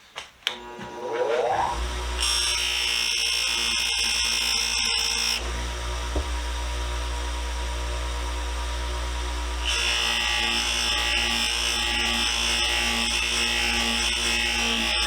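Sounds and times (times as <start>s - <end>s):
bench buffer whining and humming: 0.5s - 15.0s.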